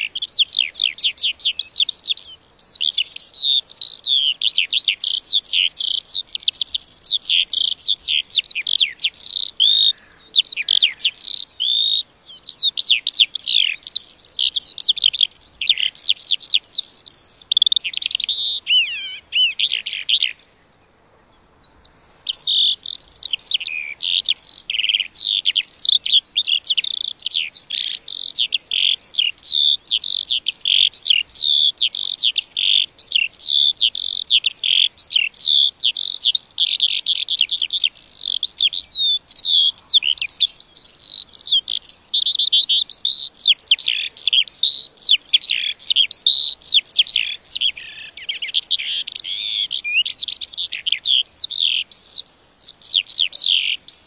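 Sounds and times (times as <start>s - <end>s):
lark singing: 0.0s - 54.0s.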